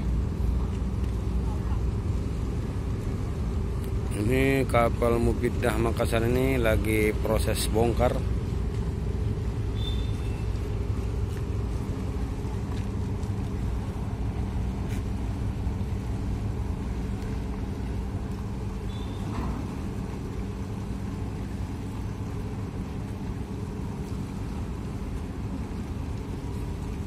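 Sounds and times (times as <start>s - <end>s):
ferry engines humming: 0.0s - 27.0s.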